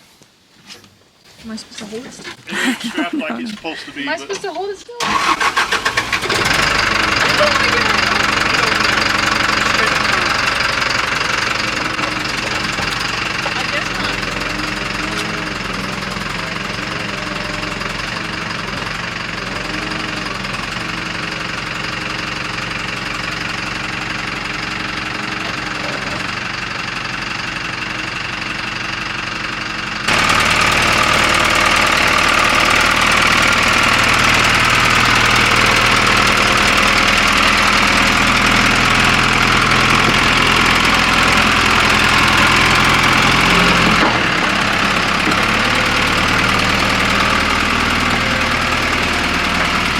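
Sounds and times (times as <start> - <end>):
diesel engine running: 1.9 - 49.9.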